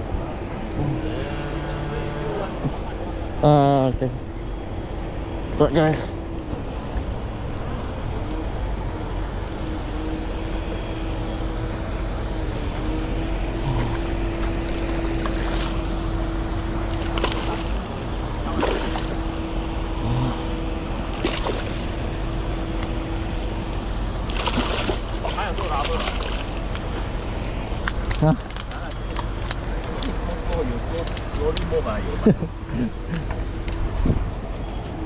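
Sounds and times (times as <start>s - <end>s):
continuous hum: 0.0s - 35.0s.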